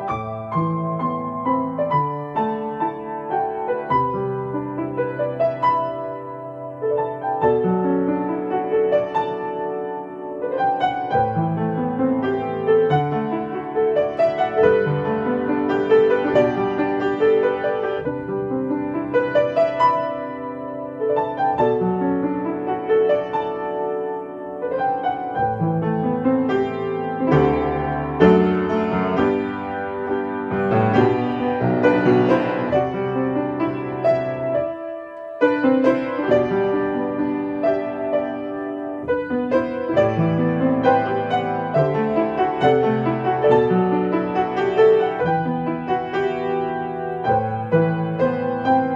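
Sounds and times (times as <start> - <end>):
solo piano piece: 0.0 - 48.9.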